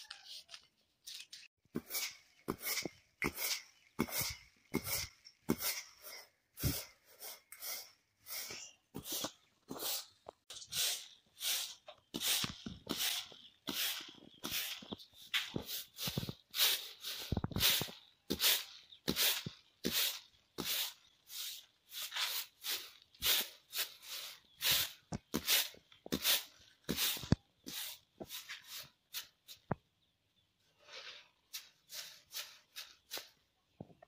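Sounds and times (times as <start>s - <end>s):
grain swishing in winnowing tray: 1.8s - 29.6s, 30.8s - 33.4s.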